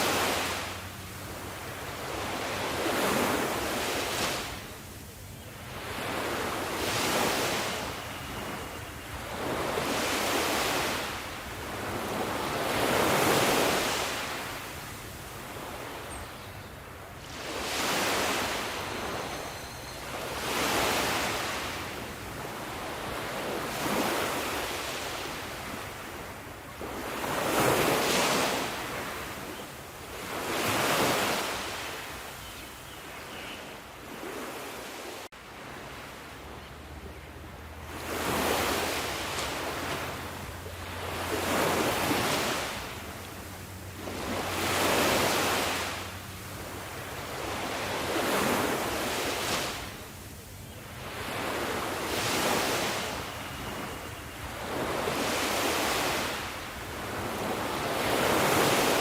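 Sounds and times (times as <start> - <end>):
sea waves breaking: 0.0 - 4.9, 5.7 - 16.1, 17.2 - 19.4, 20.1 - 32.3, 37.5 - 50.3, 51.0 - 59.0.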